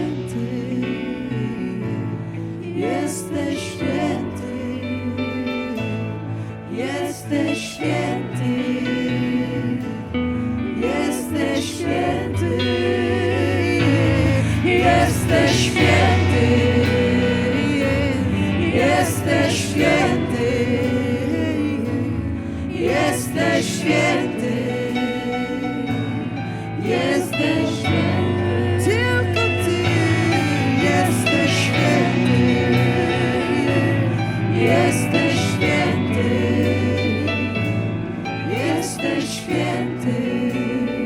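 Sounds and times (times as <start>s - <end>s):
voices singing worship music: 0.0s - 41.0s.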